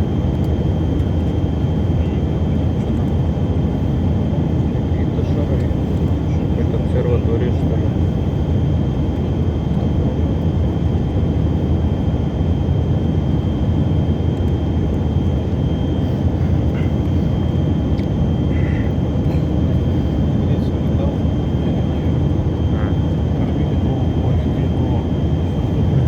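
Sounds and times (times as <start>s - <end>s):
airliner cabin low rumble: 0.0s - 26.0s
high steady whine: 0.0s - 26.0s.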